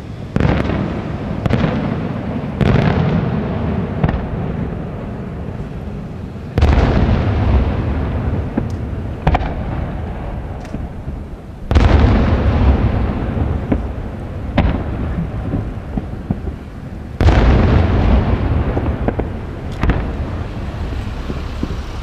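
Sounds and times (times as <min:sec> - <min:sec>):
firework shells booming: 0:00.0 - 0:22.0
low rumble of fireworks: 0:00.0 - 0:22.0.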